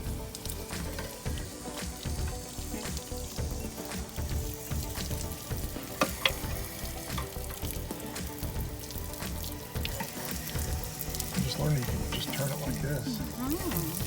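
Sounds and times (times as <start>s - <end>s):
water splattering from drain: 0.0s - 14.0s.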